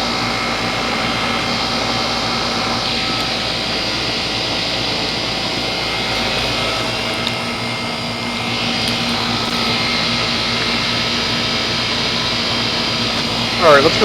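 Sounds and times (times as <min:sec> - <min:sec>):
compressor hum: 0:00.0 - 0:14.0
condenser fan whoosh: 0:00.0 - 0:14.0.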